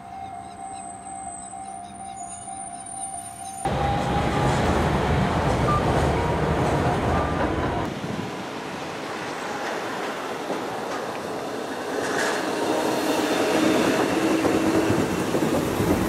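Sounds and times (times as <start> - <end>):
tram rumbling on rails: 0.0 - 16.0.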